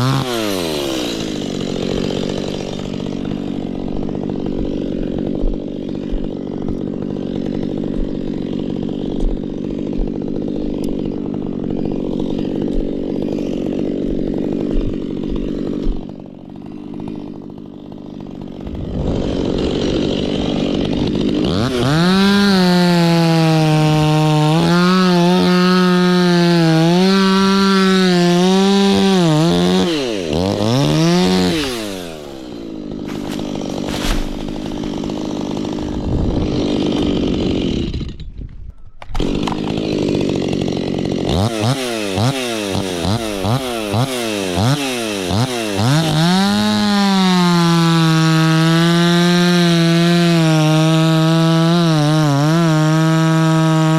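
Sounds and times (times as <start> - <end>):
two-stroke chainsaw revving: 0.0 - 38.4, 39.1 - 53.9.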